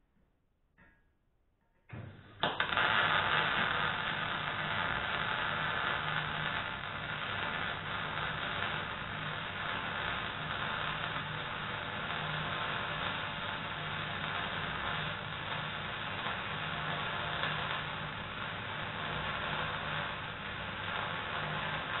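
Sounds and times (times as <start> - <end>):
welding arc hissing: 2.4 - 22.0.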